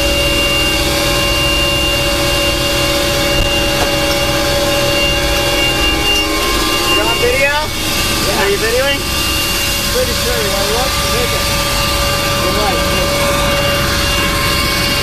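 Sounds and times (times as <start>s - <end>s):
helicopter cabin rumble: 0.0s - 15.0s
turbine whining tones: 0.0s - 15.0s.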